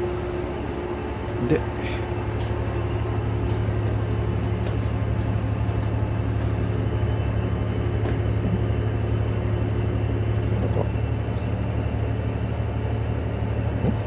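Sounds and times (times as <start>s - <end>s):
constant hum: 0.0s - 14.0s
railcar engine drone: 0.0s - 14.0s.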